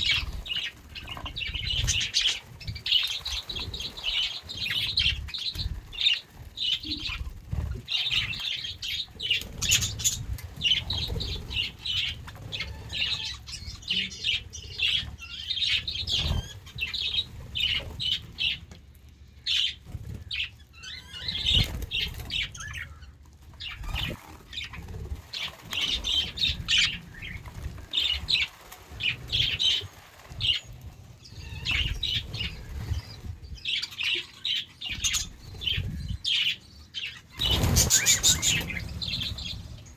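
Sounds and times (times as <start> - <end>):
budgerigars chirping: 0.0 - 7.2, 7.8 - 18.6, 25.4 - 39.9.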